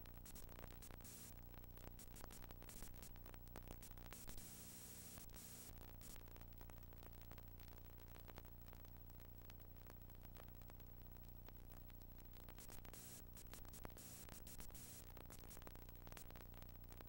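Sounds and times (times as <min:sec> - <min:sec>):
faint crackles: 0:00.0 - 0:17.0
videotape hum and hiss: 0:00.0 - 0:17.0.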